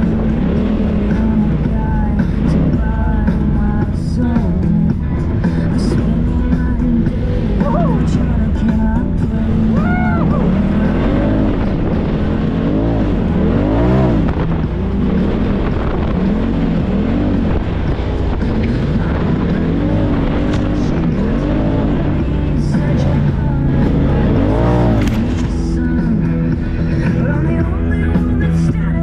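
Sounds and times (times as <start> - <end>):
utility vehicle engine revving: 0.0 - 29.0.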